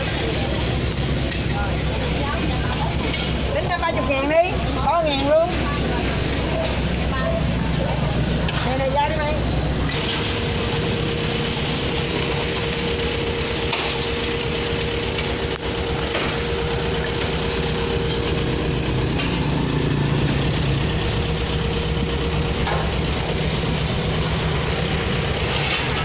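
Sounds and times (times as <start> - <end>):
motorbike engine humming: 0.0 - 26.0
street traffic noise: 0.0 - 26.0.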